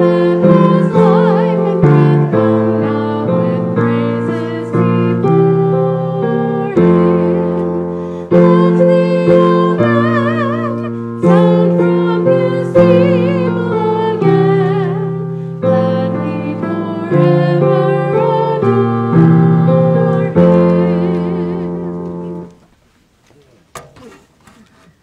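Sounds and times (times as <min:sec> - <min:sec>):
wavering melody with vibrato: 0:00.0 - 0:22.5
slow piano music: 0:00.0 - 0:22.6.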